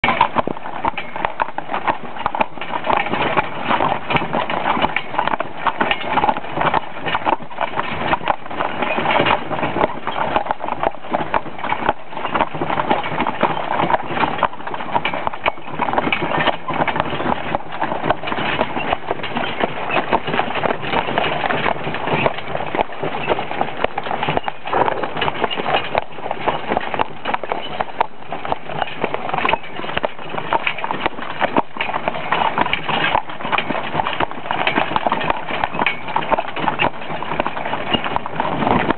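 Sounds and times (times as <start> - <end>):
harness and wagon rattling: 0.0 - 38.9
hooves clip-clopping on dirt: 0.0 - 38.9.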